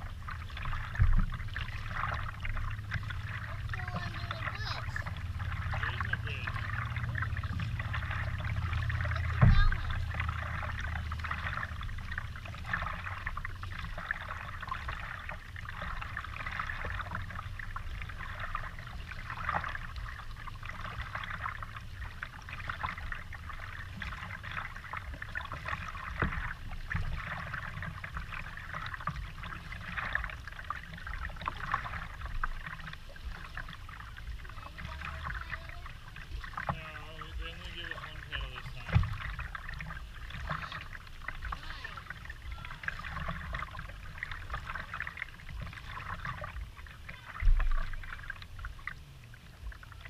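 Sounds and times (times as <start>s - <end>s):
low steady rumble: 0.0s - 50.0s
paddle strokes in water: 0.0s - 50.0s
water trickling and splashing: 0.0s - 50.0s.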